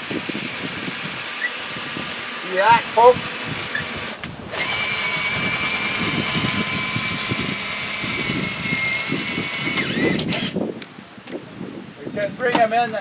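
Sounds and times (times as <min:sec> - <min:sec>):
cordless drill motor whining: 0:00.0 - 0:10.7.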